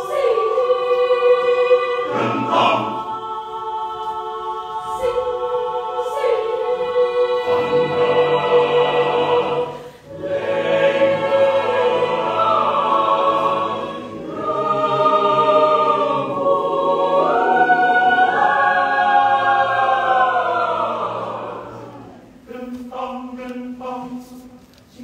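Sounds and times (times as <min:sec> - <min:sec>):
choir singing sustained chords: 0:00.0 - 0:24.5.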